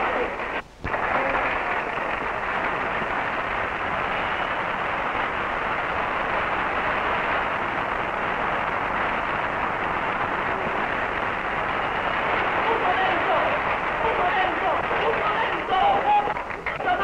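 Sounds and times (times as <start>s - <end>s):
large audience applauding: 0.0s - 17.0s.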